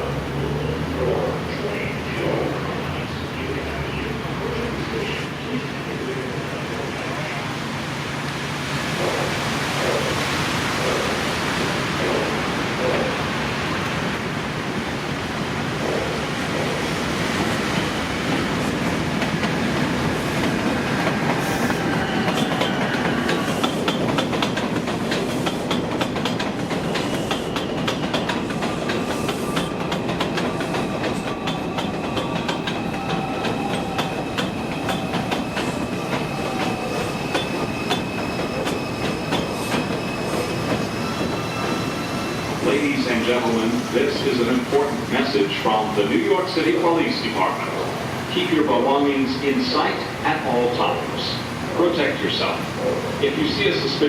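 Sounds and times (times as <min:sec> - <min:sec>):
train wheels clacking over rails: 0:04.0 - 0:54.0.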